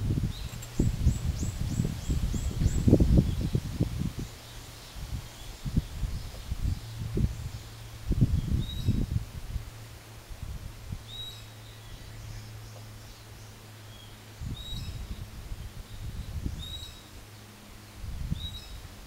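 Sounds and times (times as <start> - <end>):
wind rumbling on microphone: 0.0 - 19.0
bird chirping: 0.3 - 9.1, 11.0 - 18.8.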